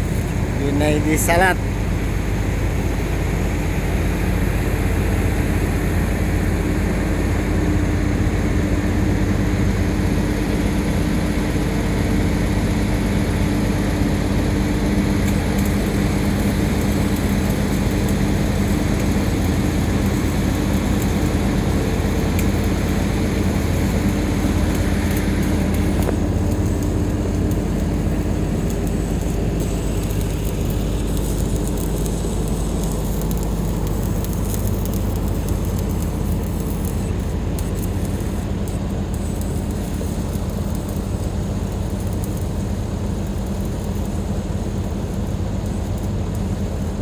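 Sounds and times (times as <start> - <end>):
heavy engine running: 0.0 - 47.0.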